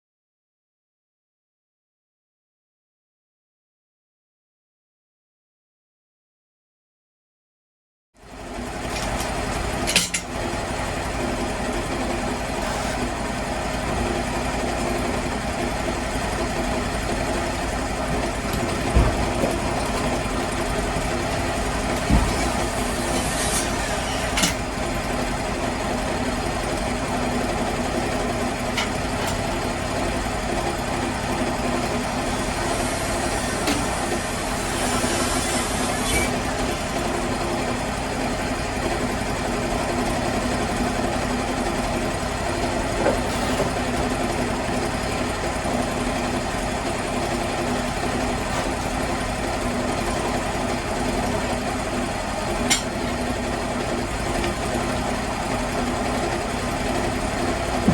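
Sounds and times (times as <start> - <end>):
sawmill engine running: 8.2 - 57.9.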